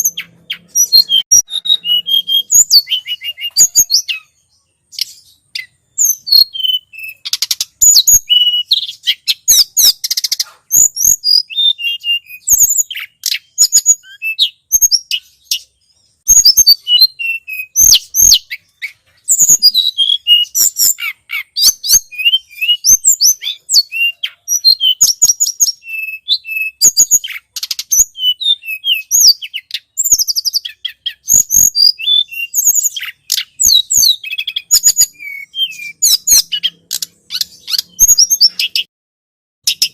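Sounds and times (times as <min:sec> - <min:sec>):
recorded songbird chirps and trills: 0:00.0 - 0:38.9, 0:39.6 - 0:39.9.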